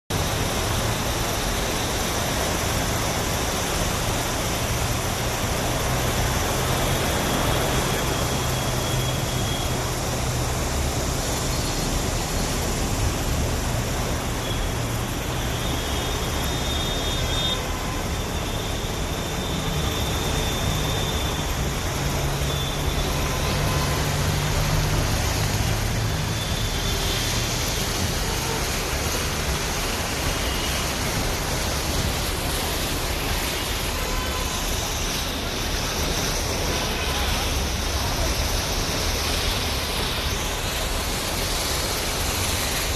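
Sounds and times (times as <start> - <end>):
heavy rain pouring: 0.1 - 42.9.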